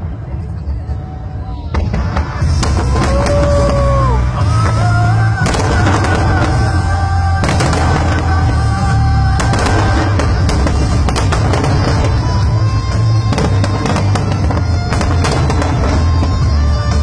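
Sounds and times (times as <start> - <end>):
music playing: 1.2 - 17.0
fireworks bursting: 1.5 - 17.0.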